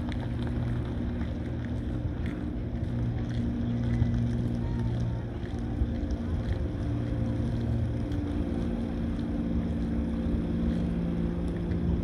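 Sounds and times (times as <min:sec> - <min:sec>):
ship machinery hum: 0:00.0 - 0:12.0.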